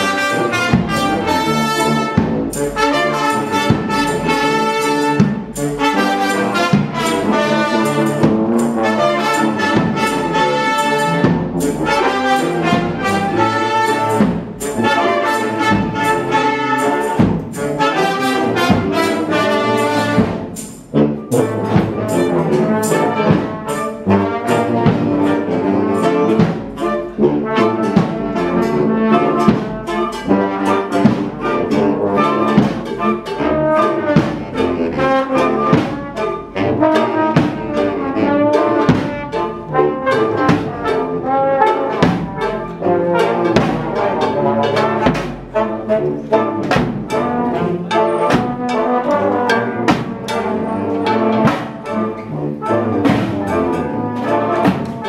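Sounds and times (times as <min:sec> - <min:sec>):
percussion hits: 0:00.0 - 0:55.0
saxophone: 0:00.0 - 0:55.0
tuba: 0:00.0 - 0:55.0.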